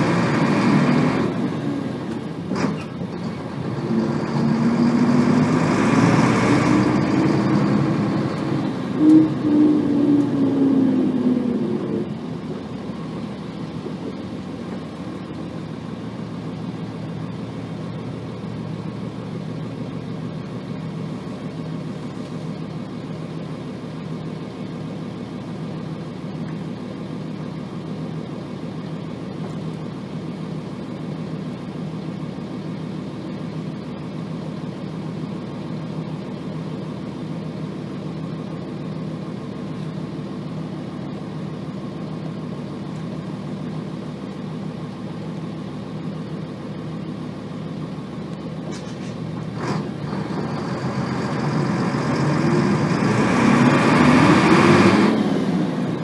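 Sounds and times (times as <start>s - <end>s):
diesel bus engine running: 0.0s - 56.0s.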